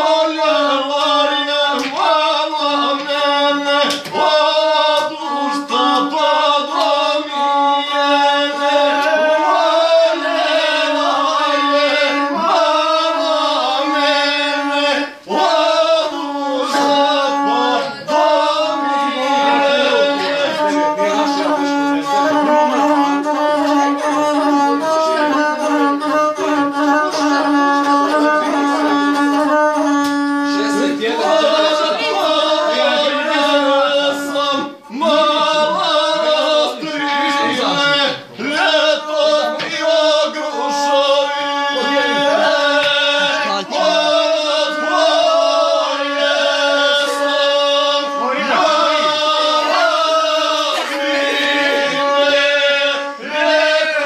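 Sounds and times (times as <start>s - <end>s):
man singing: 0.0s - 54.0s
bowed string melody: 0.3s - 54.0s.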